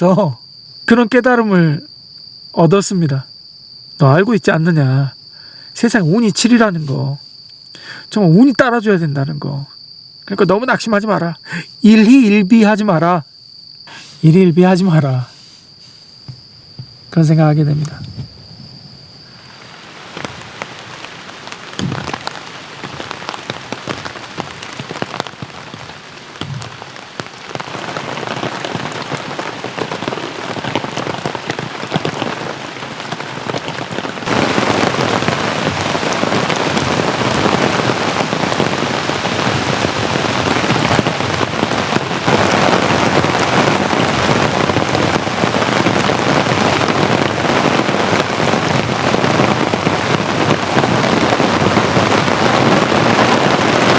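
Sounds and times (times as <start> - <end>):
heavy rain falling: 0.0 - 1.9, 4.0 - 7.2, 7.8 - 9.6, 10.3 - 13.2, 13.9 - 16.4, 17.0 - 53.9.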